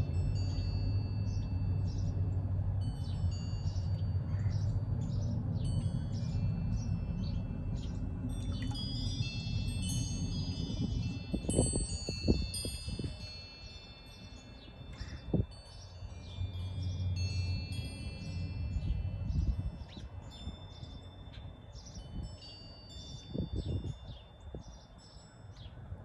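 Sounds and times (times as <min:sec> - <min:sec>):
steady low rumble: 0:00.0 - 0:26.0
wind chimes ringing: 0:00.0 - 0:26.0.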